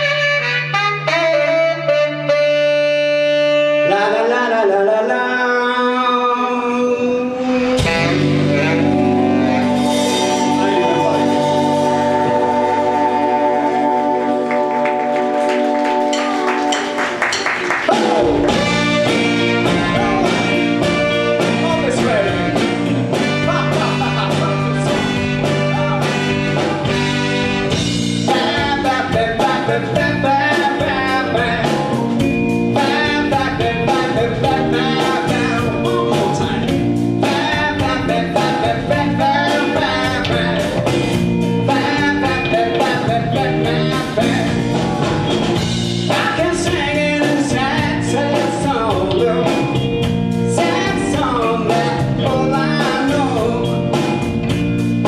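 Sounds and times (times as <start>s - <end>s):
live rock band playing: 0.0s - 5.2s, 6.0s - 55.0s
person singing: 3.1s - 26.2s, 28.2s - 32.1s, 32.8s - 41.0s, 41.6s - 44.8s, 46.1s - 54.0s.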